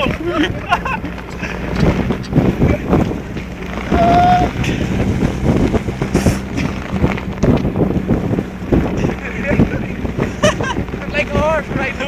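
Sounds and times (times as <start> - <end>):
car engine running: 0.0 - 12.0
sled sliding over snow: 0.0 - 12.0
wind buffeting microphone: 0.0 - 12.0.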